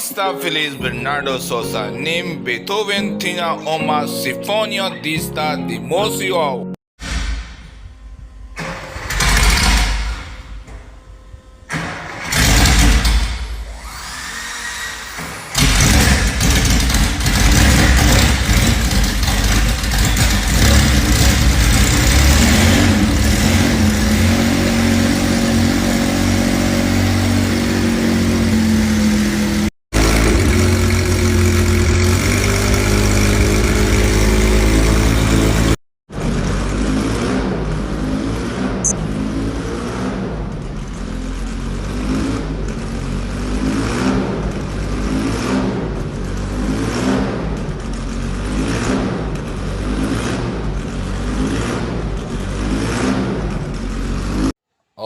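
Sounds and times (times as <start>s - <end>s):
car engine revving: 7.8s - 14.3s, 15.0s - 54.5s.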